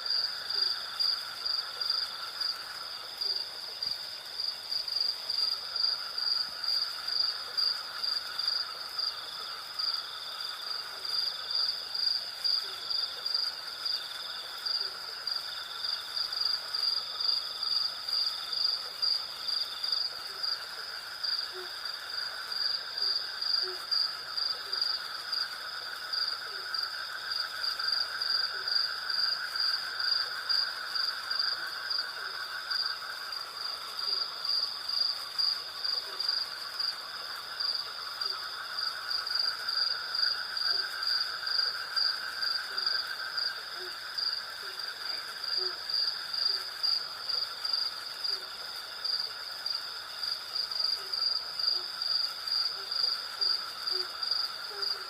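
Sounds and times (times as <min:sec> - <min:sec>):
crickets chirping: 0:00.0 - 0:55.0
high insect drone: 0:00.0 - 0:55.0.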